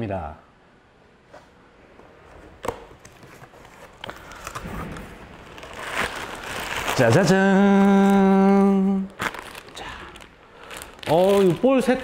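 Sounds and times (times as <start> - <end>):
rustling: 2.2 - 12.0.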